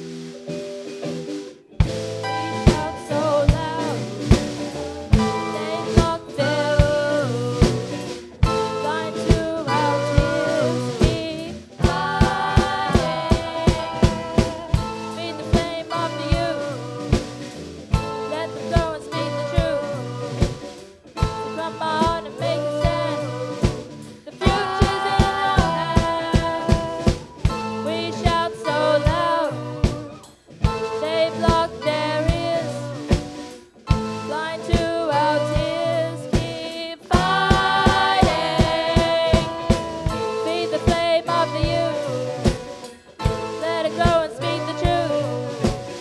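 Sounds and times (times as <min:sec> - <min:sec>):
drum kit beat: 0:00.0 - 0:46.0
electric guitars: 0:00.0 - 0:46.0
person singing lead vocal: 0:02.2 - 0:46.0.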